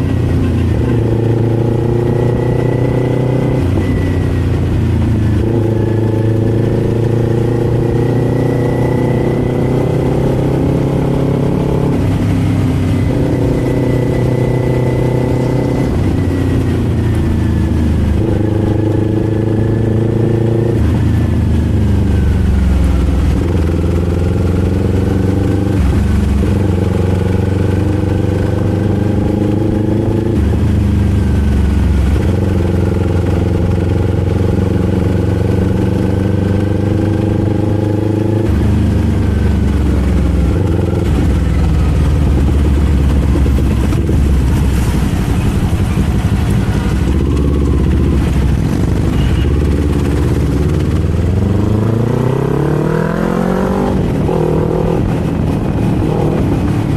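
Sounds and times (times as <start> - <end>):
motorcycle engine and exhaust: 0.0 - 56.9.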